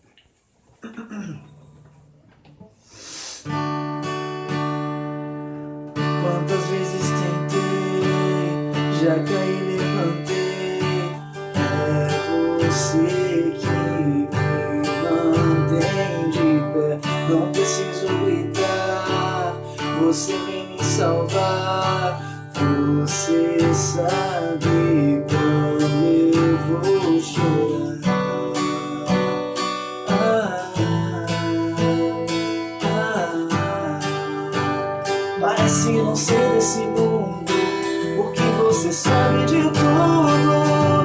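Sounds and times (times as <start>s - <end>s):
acoustic guitar strumming chords: 3.4s - 41.0s.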